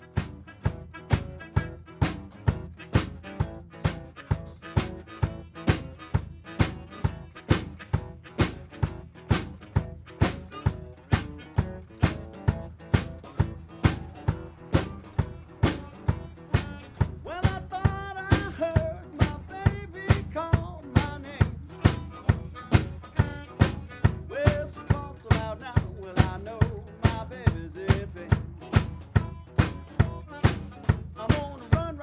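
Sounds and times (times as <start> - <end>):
drum kit beat: 0.0 - 32.0
harmonica melody: 0.0 - 32.0
strummed acoustic guitar: 0.0 - 32.0.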